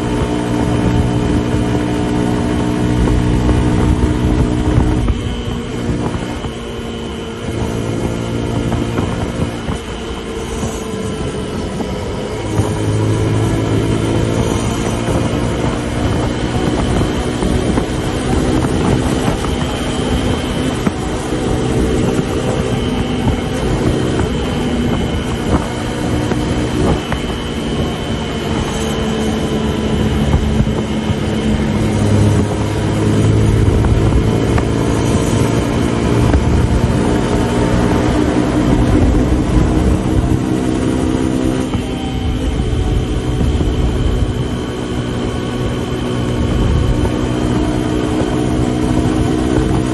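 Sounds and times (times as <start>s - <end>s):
motorcycle engine running hard: 0.0s - 49.9s
wind rushing over microphone: 0.0s - 49.9s.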